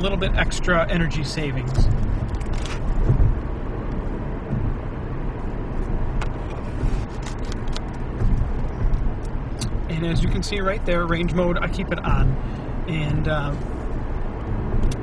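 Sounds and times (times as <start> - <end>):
car interior rumble and hiss: 0.0 - 15.0.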